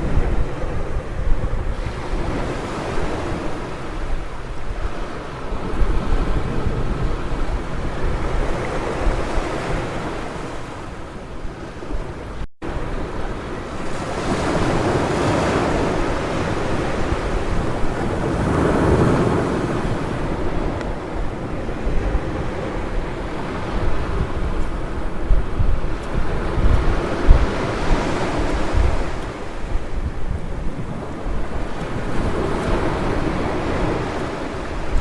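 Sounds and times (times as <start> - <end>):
ocean waves breaking: 0.0 - 35.0
wind rumbling on microphone: 0.0 - 35.0.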